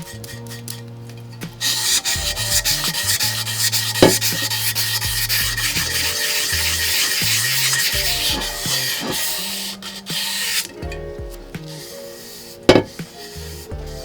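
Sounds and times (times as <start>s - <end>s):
sandpaper rubbing paint: 0.0s - 0.8s, 1.4s - 10.8s, 11.6s - 14.0s
background music: 0.0s - 14.0s.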